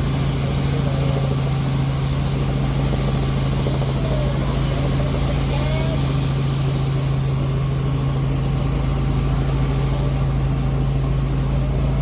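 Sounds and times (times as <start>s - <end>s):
helicopter droning: 0.0s - 12.0s.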